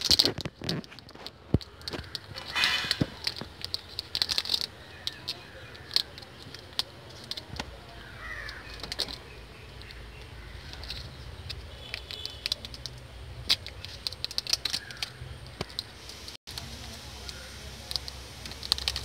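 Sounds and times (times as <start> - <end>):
foil wrapper crinkling: 0.0 - 9.3, 9.9 - 19.0.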